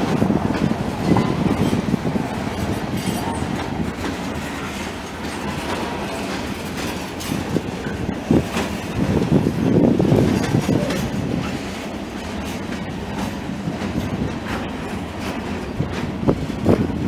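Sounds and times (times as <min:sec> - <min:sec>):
steel wheels rumbling on rail: 0:00.0 - 0:17.0
wheels clacking over rail joints: 0:00.0 - 0:17.0.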